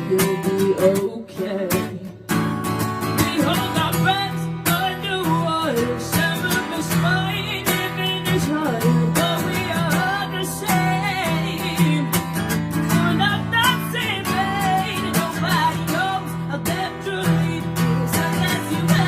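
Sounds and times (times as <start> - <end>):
strummed acoustic guitar: 0.0 - 19.0
woman singing: 0.0 - 19.0.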